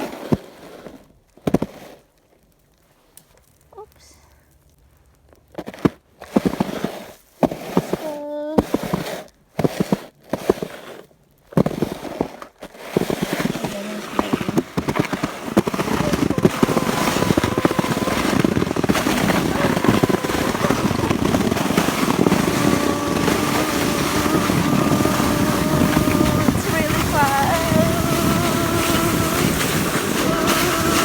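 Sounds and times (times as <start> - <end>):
snow crunching as someone slides: 0.0 - 2.1, 5.6 - 31.0.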